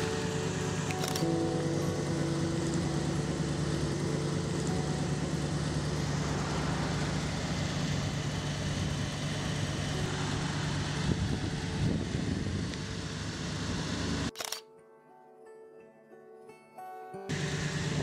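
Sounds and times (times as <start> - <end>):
pickup truck engine idling: 0.0 - 14.3, 17.3 - 18.0.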